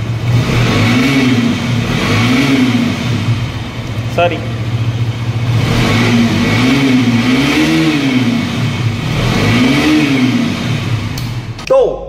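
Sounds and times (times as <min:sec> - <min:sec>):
motorcycle engine idling and revving: 0:00.0 - 0:11.7.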